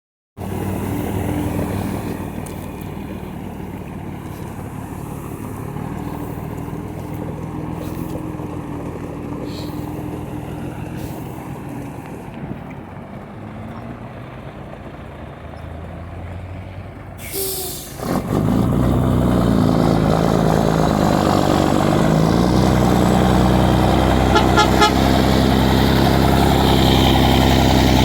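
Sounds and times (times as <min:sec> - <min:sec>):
diesel truck engine idling: 0:00.4 - 0:28.0.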